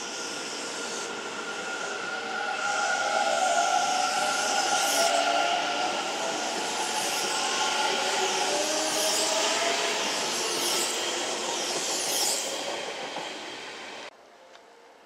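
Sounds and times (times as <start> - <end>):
electric train passing: 0.0 - 14.1.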